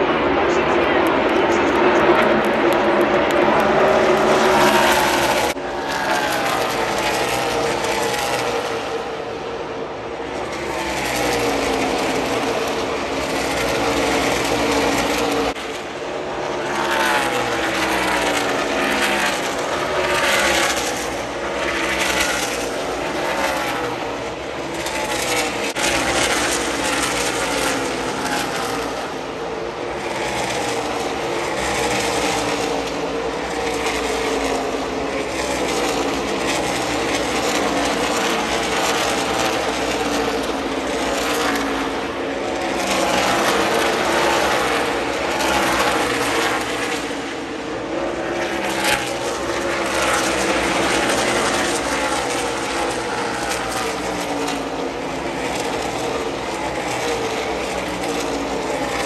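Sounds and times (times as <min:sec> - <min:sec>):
race car engines passing: 0:00.0 - 0:59.0.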